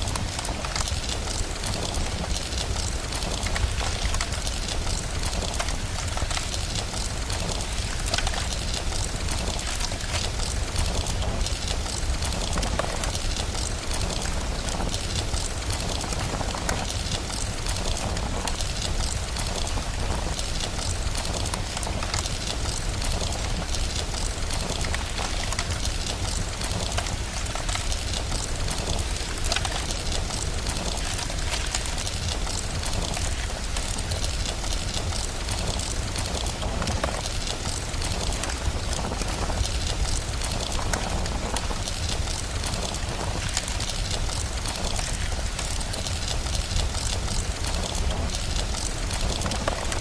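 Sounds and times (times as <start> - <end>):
constant low rumble: 0.0 - 50.0
fine crackles: 0.0 - 50.0
steady rain: 0.0 - 50.0.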